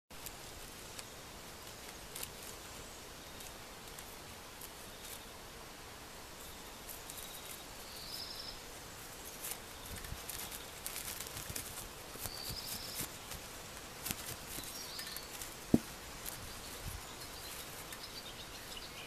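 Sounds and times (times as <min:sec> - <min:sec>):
steady hiss: 0:00.1 - 0:19.0
kitten rustling in wicker basket: 0:00.2 - 0:05.3, 0:06.7 - 0:18.8.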